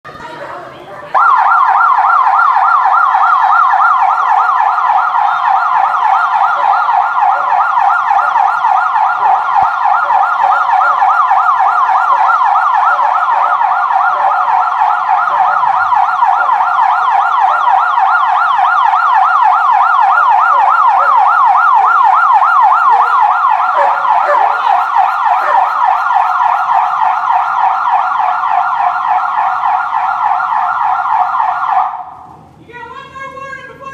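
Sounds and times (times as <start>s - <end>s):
police siren yelping: 1.1s - 32.3s.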